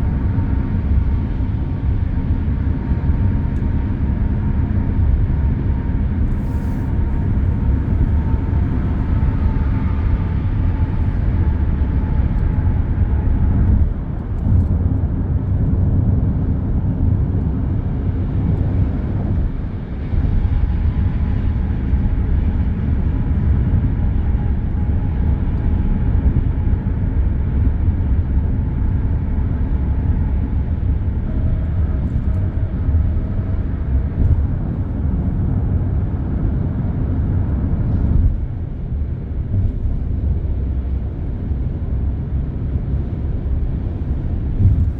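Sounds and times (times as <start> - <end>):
dense traffic rumble: 0.0 - 44.9
whining tones of passing vehicles: 0.0 - 44.9.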